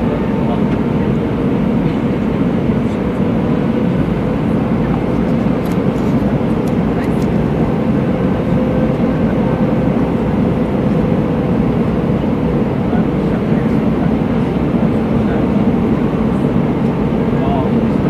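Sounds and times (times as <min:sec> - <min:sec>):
jet airliner drone in flight: 0:00.0 - 0:18.0.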